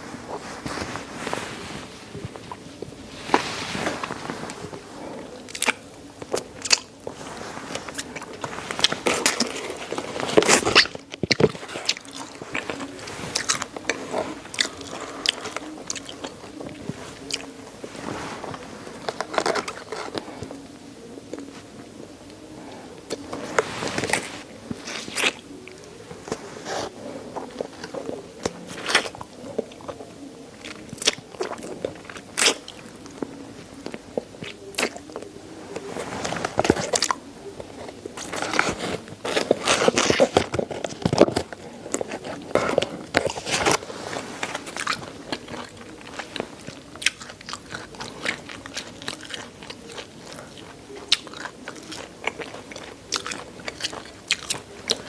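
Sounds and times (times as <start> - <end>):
bones crunching while chewing: 2.1 - 21.7, 22.3 - 55.0.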